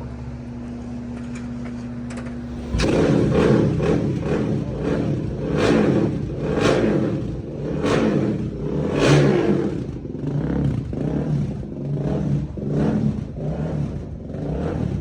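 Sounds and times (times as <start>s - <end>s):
motorcycle engine revving: 2.4s - 15.0s.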